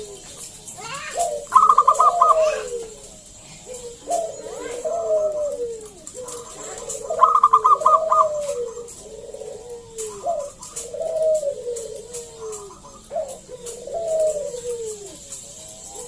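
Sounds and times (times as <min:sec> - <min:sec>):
bird trill: 0:00.0 - 0:16.0
dove cooing: 0:00.0 - 0:16.0.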